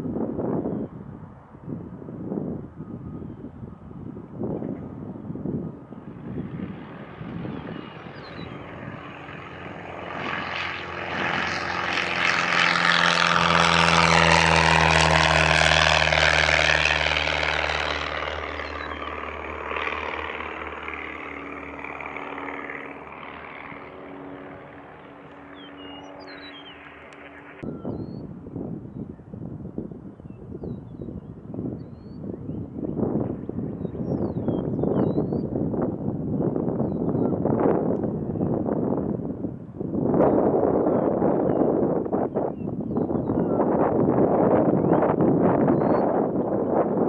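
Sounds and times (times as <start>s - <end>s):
propeller airplane passing: 0.1s - 47.0s.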